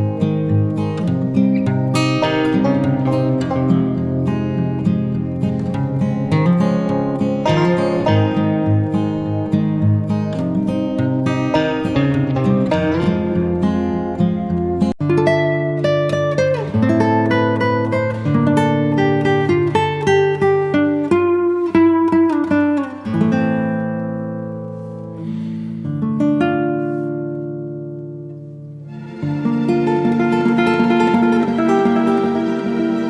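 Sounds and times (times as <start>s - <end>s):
plucked acoustic guitar: 0.0s - 33.0s.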